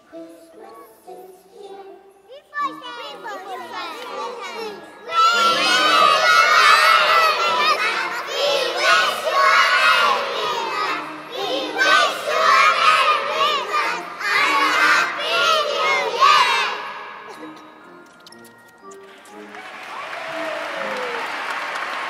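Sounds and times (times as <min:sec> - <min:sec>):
young children singing: 0:00.0 - 0:17.8.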